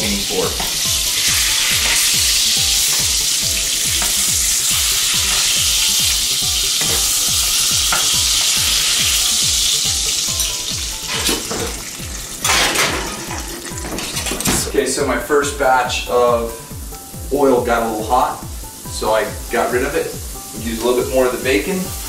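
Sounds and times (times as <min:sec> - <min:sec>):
meat sizzling in a frying pan: 0:00.0 - 0:22.0.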